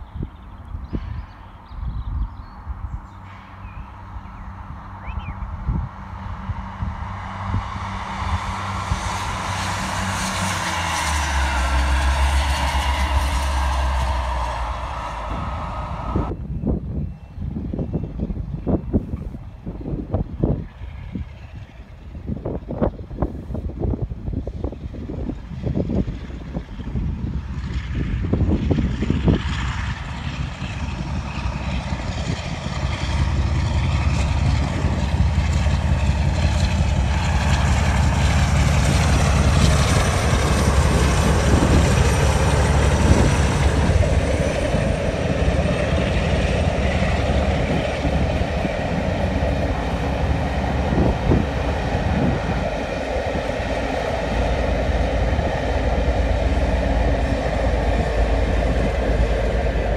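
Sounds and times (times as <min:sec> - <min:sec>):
diesel locomotive engine rumble: 0:00.0 - 0:59.9
train coaches rolling: 0:06.0 - 0:16.4, 0:18.2 - 0:59.9.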